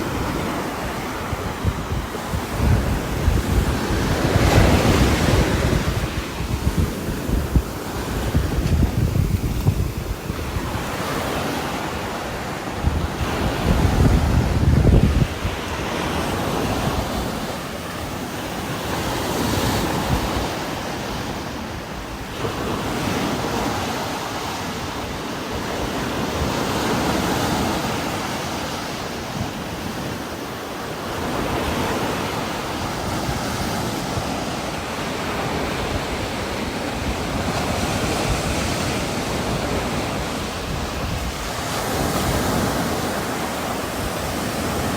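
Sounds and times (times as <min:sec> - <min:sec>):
strong wind gusting through trees: 0:00.0 - 0:44.9.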